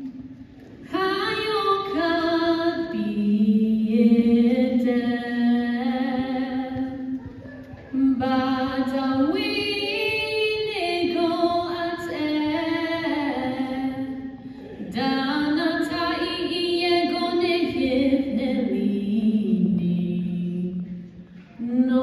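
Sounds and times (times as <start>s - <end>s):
person singing unaccompanied: 0.9s - 7.2s, 7.9s - 20.9s.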